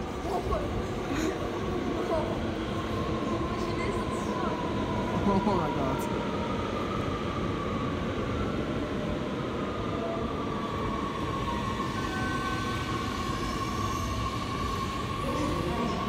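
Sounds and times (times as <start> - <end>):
electric train whine: 0.0 - 16.0.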